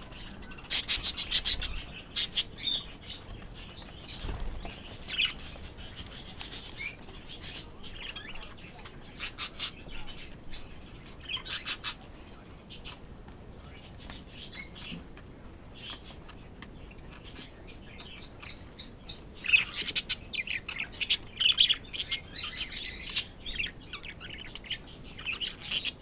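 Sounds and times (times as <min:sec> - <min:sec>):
budgerigars chirping: 0:00.0 - 0:12.1, 0:15.8 - 0:26.0.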